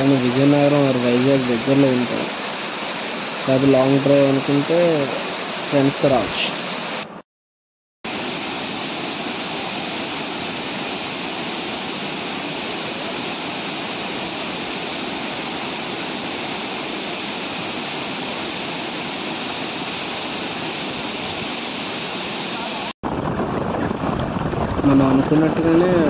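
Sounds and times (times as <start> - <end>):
water rushing over spillway: 0.0 - 7.2, 8.1 - 26.0.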